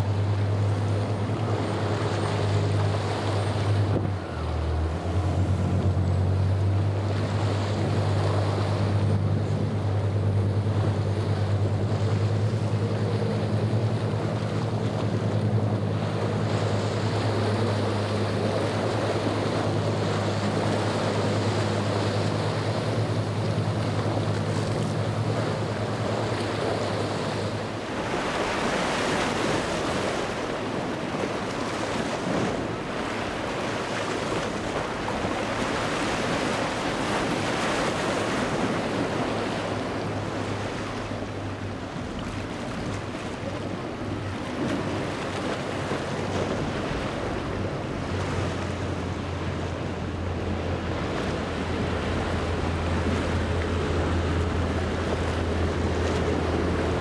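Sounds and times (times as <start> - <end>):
boat engine drone: 0.0 - 57.0
spray and surf rushing: 0.0 - 57.0.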